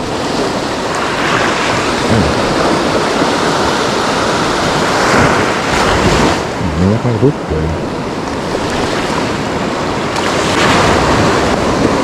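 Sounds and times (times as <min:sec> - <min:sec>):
ocean surf washing ashore: 0:00.0 - 0:12.0
wind buffeting microphone: 0:00.0 - 0:12.0.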